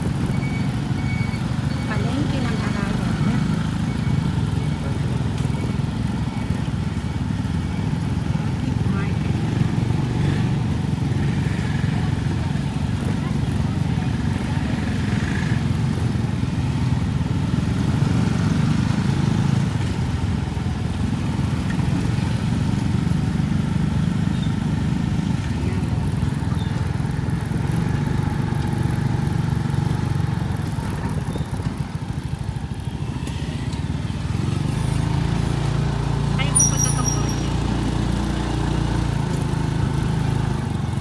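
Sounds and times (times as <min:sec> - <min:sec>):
road and traffic noise: 0:00.0 - 0:41.0
small motorcycle engine running: 0:00.0 - 0:41.0.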